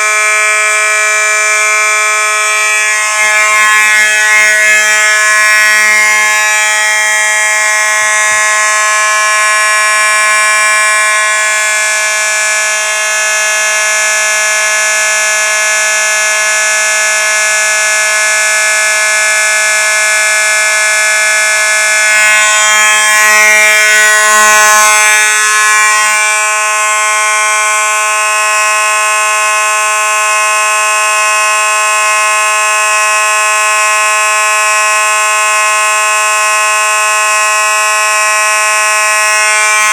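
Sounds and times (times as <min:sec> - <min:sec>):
fire alarm horn buzzing: 0:00.0 - 0:39.9.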